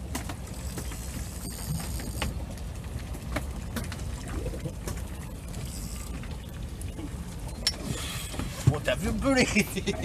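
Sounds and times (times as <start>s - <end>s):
boat rumble: 0.0s - 10.0s.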